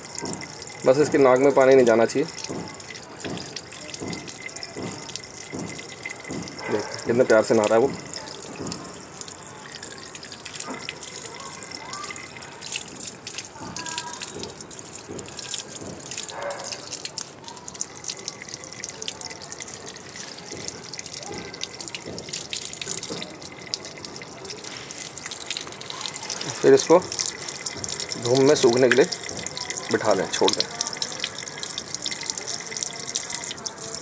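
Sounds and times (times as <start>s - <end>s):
patter of water drops: 0.0s - 34.0s
tap water running and splashing: 0.0s - 34.0s.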